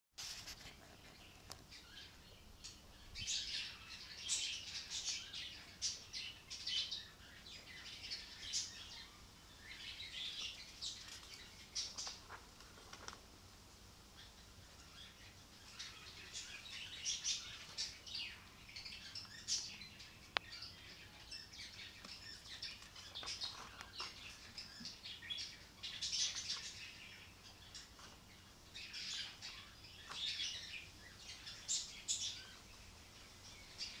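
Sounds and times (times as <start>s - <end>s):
small birds chirping: 0.3s - 34.0s.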